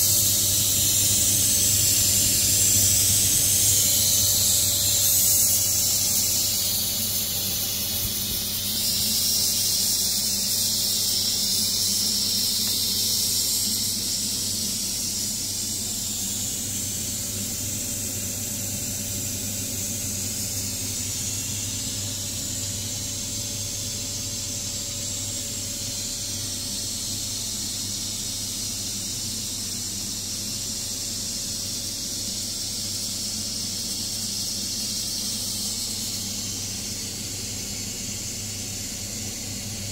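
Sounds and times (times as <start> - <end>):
steam hissing from pressure valve: 0.0 - 39.9.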